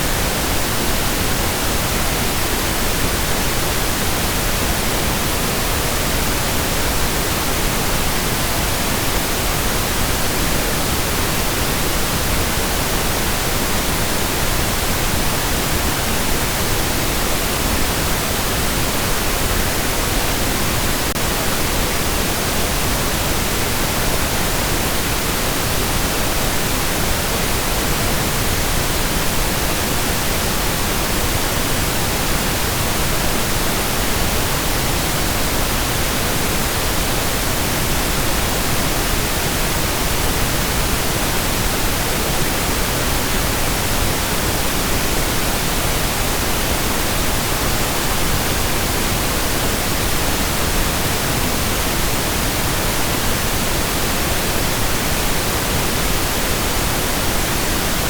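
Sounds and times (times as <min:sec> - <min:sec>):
steady pink noise hiss: 0:00.0 - 0:58.0.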